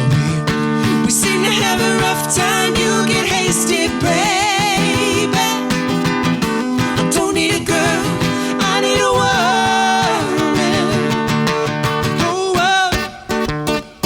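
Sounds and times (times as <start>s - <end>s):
person singing wordless melody: 0.0s - 11.5s, 12.1s - 13.3s
acoustic guitar: 0.0s - 14.0s.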